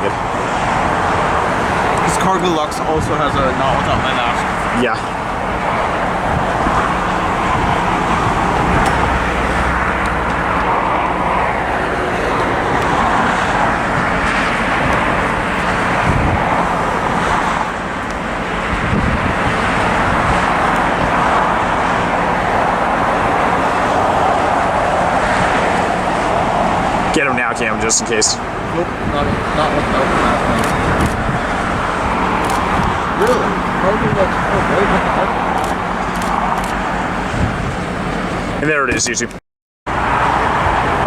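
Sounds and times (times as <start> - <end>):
engine roar: 0.0 - 39.2, 39.9 - 41.0.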